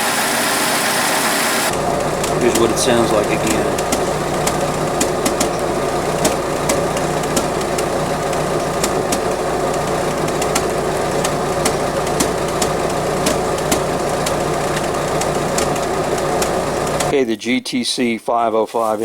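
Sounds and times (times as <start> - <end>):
engine idling: 0.0 - 17.1
sharp engine ticks: 1.7 - 17.2.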